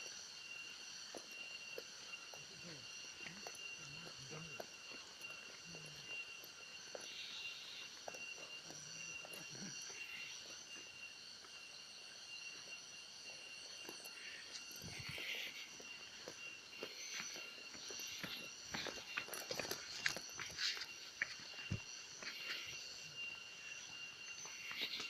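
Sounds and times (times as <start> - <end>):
insects chorus: 0.0 - 25.0.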